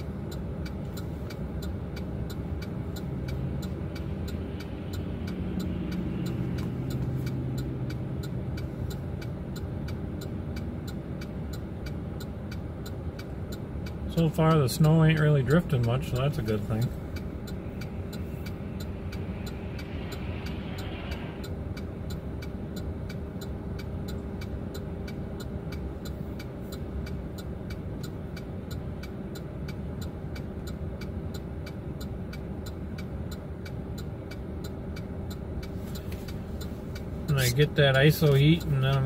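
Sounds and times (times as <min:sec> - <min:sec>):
engine and road rumble: 0:00.0 - 0:39.0
even ticking: 0:00.0 - 0:39.0.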